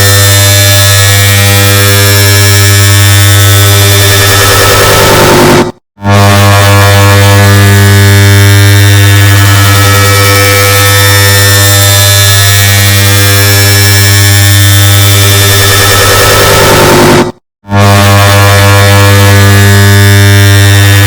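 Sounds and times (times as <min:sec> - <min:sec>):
loud buzzing electric hum: 0:00.0 - 0:21.0.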